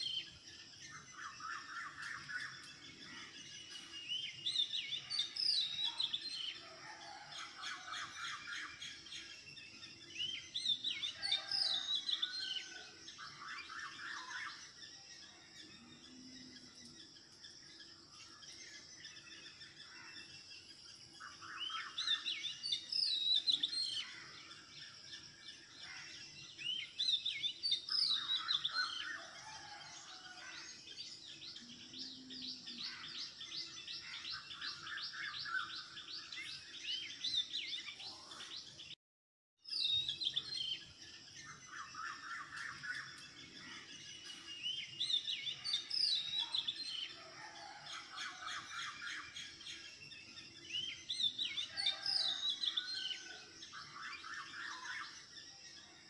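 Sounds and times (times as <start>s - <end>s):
small birds chirping and twittering: 0.0s - 39.0s, 39.6s - 56.0s.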